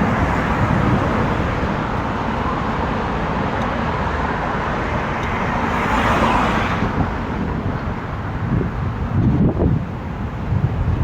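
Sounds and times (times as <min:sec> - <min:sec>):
rushing wind and road noise: 0:00.0 - 0:11.0
traffic noise: 0:00.0 - 0:11.0.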